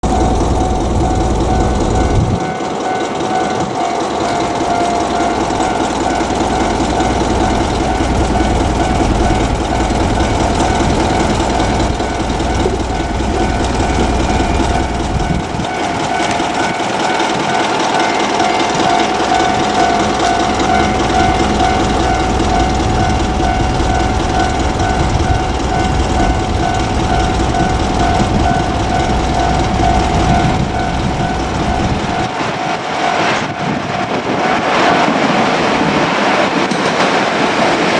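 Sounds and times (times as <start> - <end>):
level crossing alarm ringing: 0.0 - 37.1
diesel locomotive rumble: 0.0 - 37.9.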